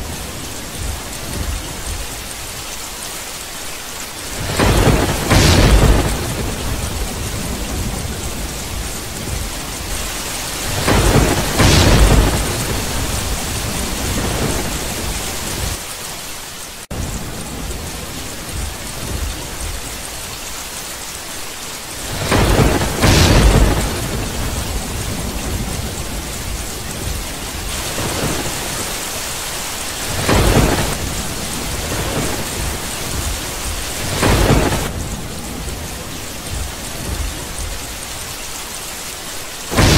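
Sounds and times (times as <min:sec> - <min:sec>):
thunder rumbling: 0:00.0 - 0:02.8, 0:04.2 - 0:15.8, 0:16.9 - 0:20.5, 0:22.0 - 0:38.8, 0:39.7 - 0:39.9
steady rain: 0:00.0 - 0:39.9.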